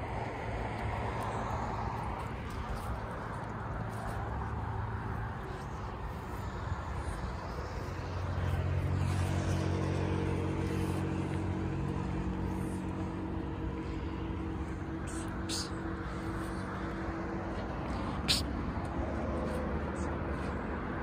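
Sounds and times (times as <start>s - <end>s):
outdoor background noise: 0.0s - 21.0s
vehicle engine running: 0.0s - 21.0s.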